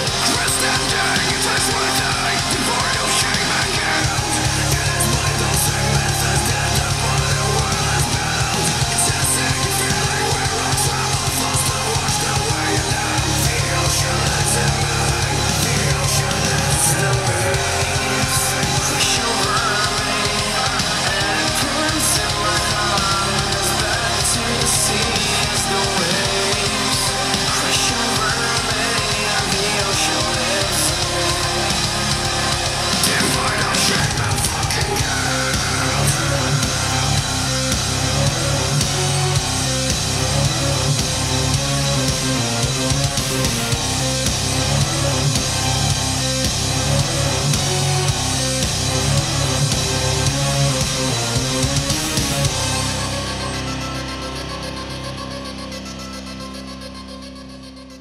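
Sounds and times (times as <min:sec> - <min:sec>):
rock music through speaker: 0:00.0 - 0:58.0.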